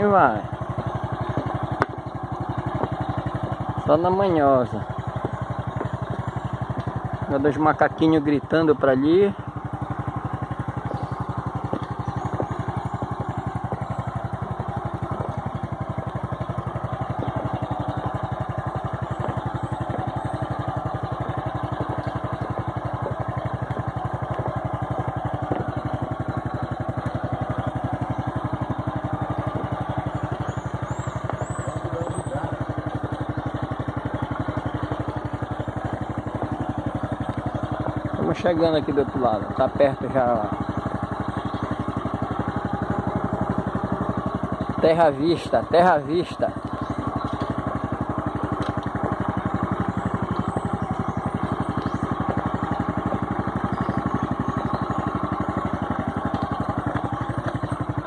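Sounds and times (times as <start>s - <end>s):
small motorcycle engine running: 0.0s - 58.0s.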